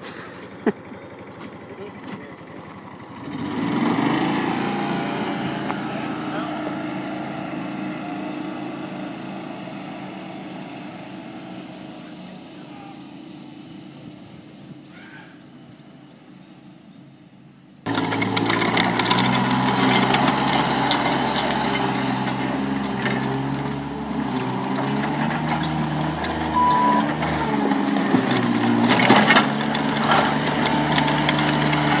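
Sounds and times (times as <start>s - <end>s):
diesel engine running hard: 0.0s - 14.9s, 17.8s - 32.0s.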